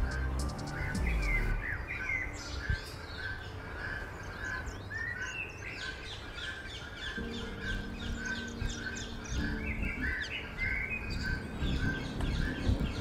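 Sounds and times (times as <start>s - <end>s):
birds singing and calling: 0.0s - 13.0s.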